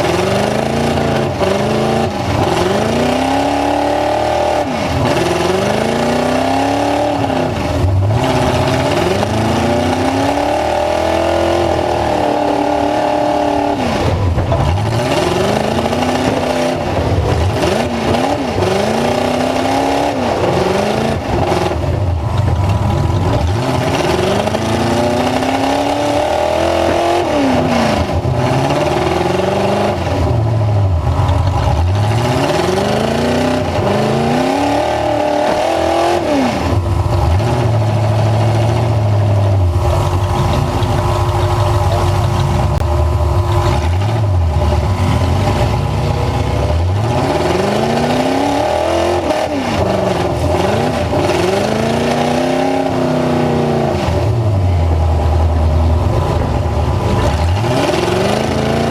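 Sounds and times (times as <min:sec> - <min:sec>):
truck engine revving: 0:00.0 - 0:58.9.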